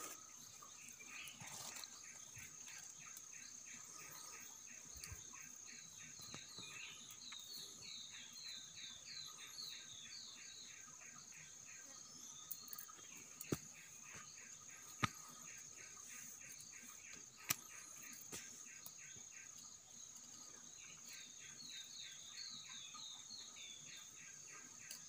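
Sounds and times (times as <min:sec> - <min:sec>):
bird chirping: 0:00.0 - 0:25.0
insects buzzing and chirping: 0:00.0 - 0:25.0.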